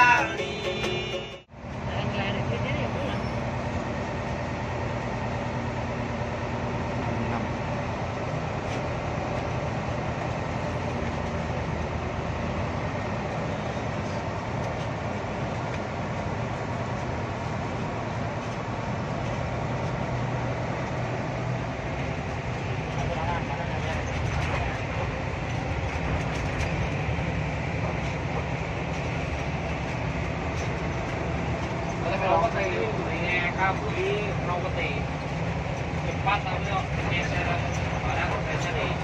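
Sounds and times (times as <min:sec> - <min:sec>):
bus diesel engine humming: 0:00.0 - 0:39.0
road and cabin noise: 0:00.0 - 0:39.0.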